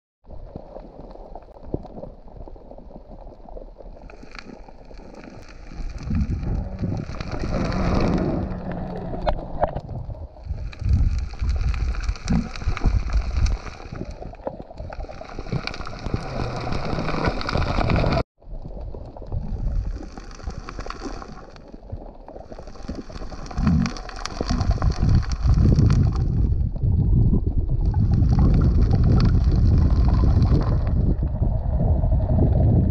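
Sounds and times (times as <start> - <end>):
underwater rumble and sloshing: 0.2 - 32.9.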